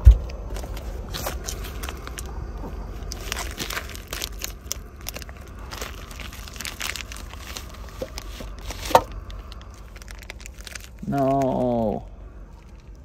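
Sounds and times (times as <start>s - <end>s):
plastic packet crinkling: 0.5s - 13.0s.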